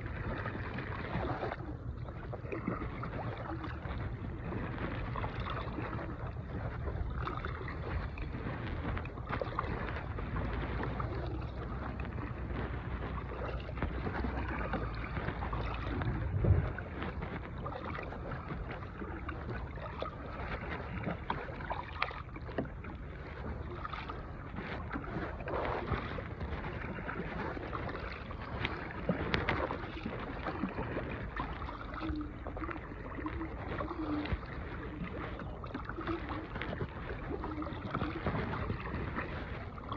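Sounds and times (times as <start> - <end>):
water lapping at hull: 0.0 - 39.9
wind on microphone: 0.0 - 39.9.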